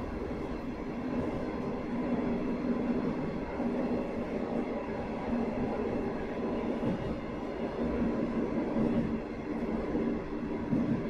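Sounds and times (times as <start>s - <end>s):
diesel railcar engine hum: 0.0s - 11.0s.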